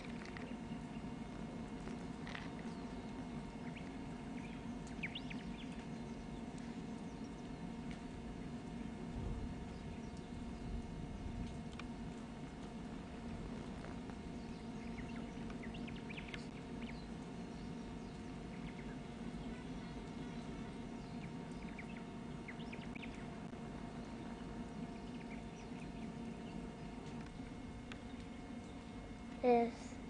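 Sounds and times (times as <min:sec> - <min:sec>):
small birds chirping: 0:00.0 - 0:08.0, 0:13.6 - 0:29.8
low background hum: 0:00.0 - 0:30.0.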